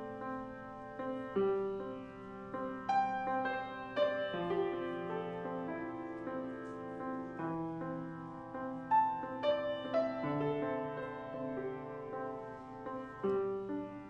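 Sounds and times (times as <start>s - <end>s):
slow quiet grand piano piece: 0.0s - 14.0s.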